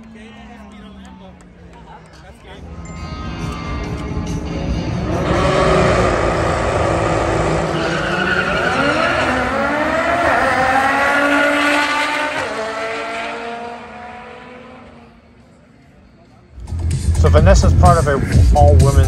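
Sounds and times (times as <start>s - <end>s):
car engines revving hard: 0.0s - 15.5s.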